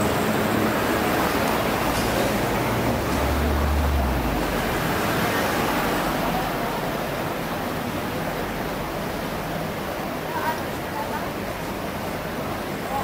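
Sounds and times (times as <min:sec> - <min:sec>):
tram rumble: 0:00.0 - 0:12.9
street traffic noise: 0:00.0 - 0:13.0.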